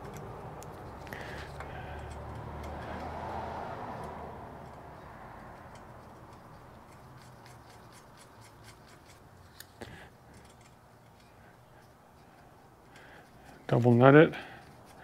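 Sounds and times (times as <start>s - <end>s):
metallic ticks and scraping of nuts: 0.0s - 15.0s.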